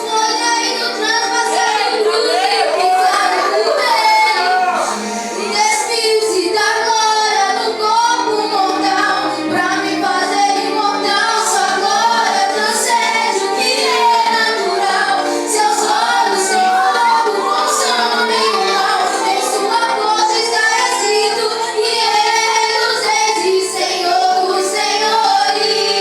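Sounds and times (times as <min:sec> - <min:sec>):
children singing: 0:00.0 - 0:26.0
musical backing: 0:00.0 - 0:26.0.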